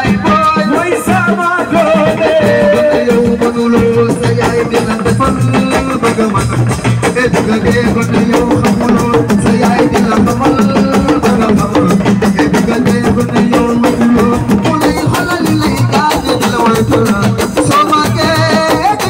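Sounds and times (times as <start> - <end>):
rapid drum strikes: 0.0 - 19.0.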